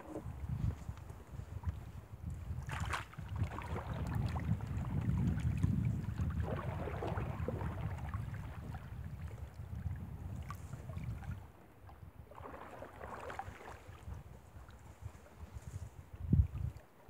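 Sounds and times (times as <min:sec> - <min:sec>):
waves lapping against rocks: 0:00.0 - 0:11.4, 0:12.2 - 0:16.7
wind noise on microphone: 0:00.0 - 0:16.9.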